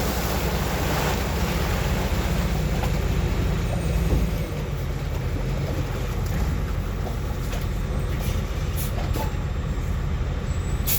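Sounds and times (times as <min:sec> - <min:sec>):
truck engine rumbling: 0:00.0 - 0:10.9.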